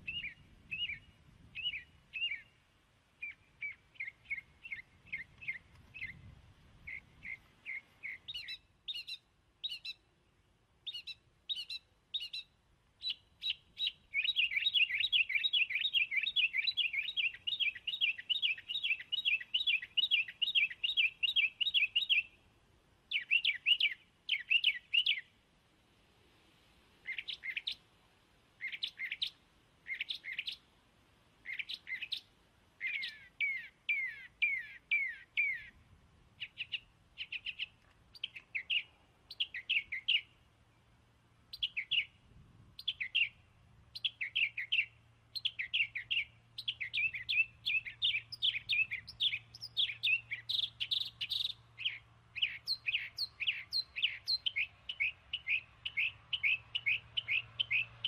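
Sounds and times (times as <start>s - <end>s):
birds chirping: 0.0s - 22.5s, 23.1s - 25.4s, 27.0s - 27.9s, 28.5s - 30.7s, 31.4s - 35.8s, 36.4s - 42.2s, 42.8s - 58.0s.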